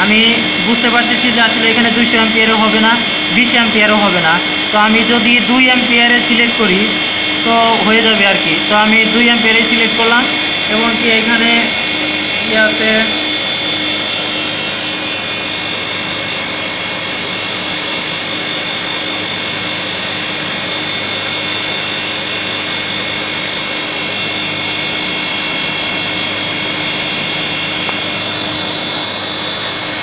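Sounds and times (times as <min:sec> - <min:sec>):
electric motor humming and whining: 0:00.0 - 0:30.0.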